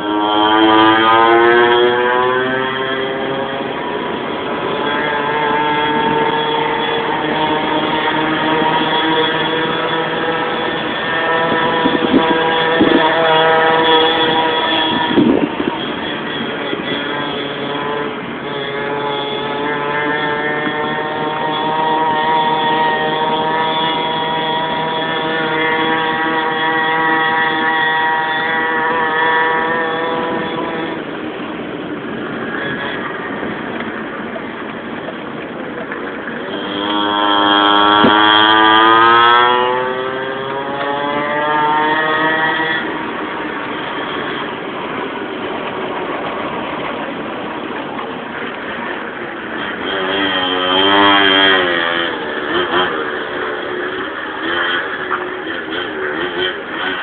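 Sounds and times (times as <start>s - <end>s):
pocket bike engine revving: 0.0s - 57.0s.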